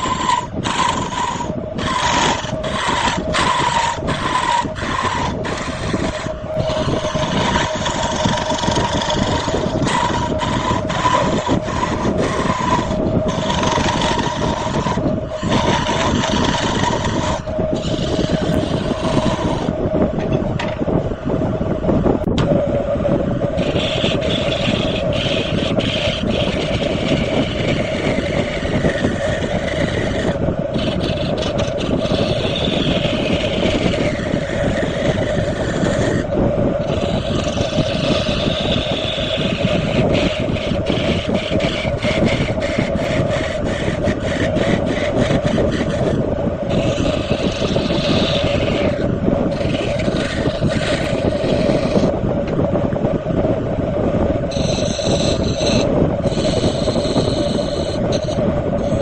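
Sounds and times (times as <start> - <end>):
lathe motor humming: 0.0 - 20.8, 22.2 - 53.2, 54.0 - 59.0
tool cutting spinning wood: 0.0 - 21.0, 22.2 - 53.1, 53.9 - 59.0.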